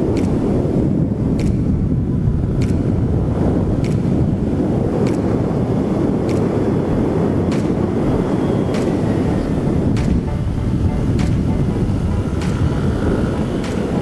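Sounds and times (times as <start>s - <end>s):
road noise: 0.0s - 14.0s
wind rushing over microphone: 0.0s - 14.0s.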